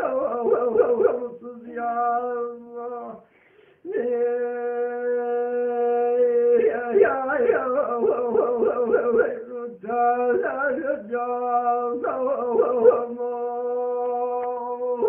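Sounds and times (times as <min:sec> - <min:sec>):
man singing a lament: 0:00.0 - 0:15.0.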